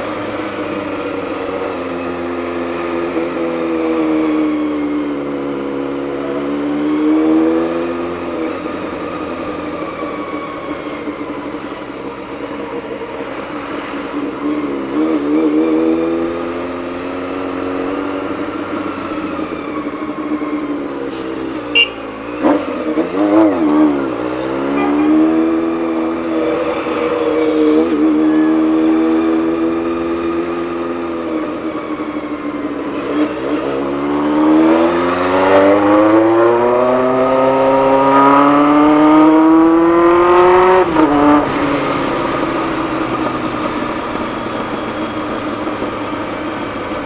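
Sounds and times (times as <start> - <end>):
motorcycle engine running: 0.0 - 27.2, 27.9 - 47.0.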